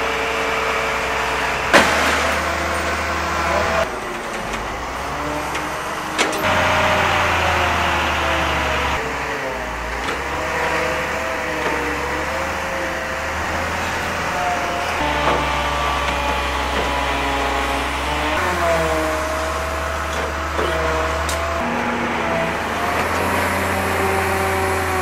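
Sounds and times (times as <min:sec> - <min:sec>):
hydraulic whine: 0:00.0 - 0:25.0
truck engine droning: 0:00.0 - 0:25.0.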